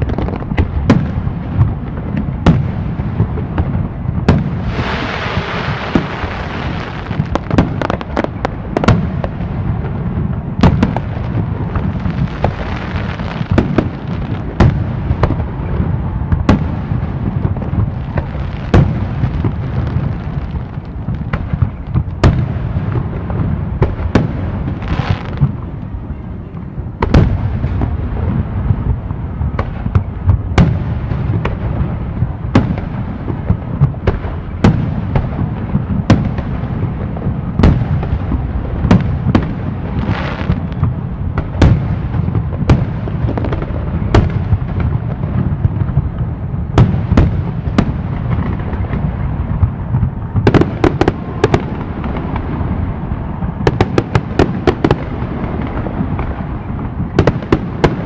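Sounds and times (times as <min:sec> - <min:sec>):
firework hissing crackle: 0:00.0 - 0:58.0.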